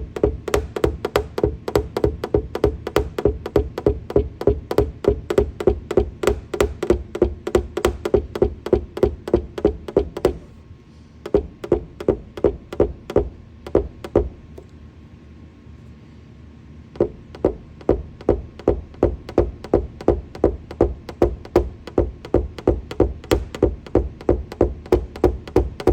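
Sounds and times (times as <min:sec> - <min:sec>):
tapping on car roof panel: 0:00.0 - 0:10.6, 0:11.2 - 0:14.4, 0:17.0 - 0:25.9.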